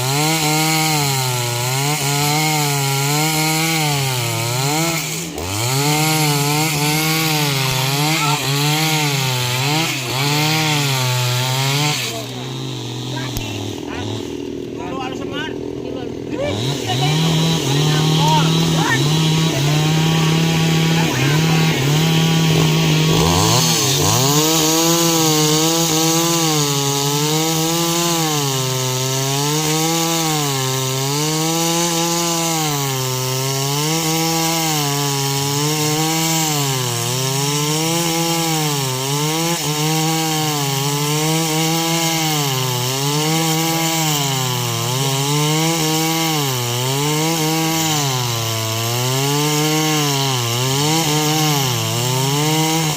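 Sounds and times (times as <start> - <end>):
chainsaw cutting into tree: 0.0 - 52.9.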